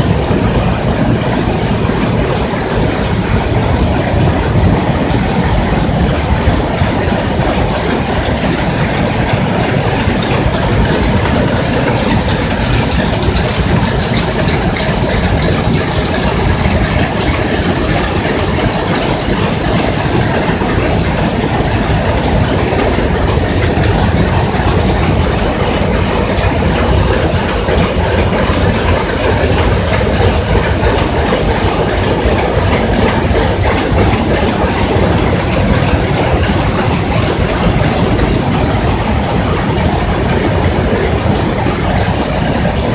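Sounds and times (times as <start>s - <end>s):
weaving looms clattering: 0.0s - 42.9s.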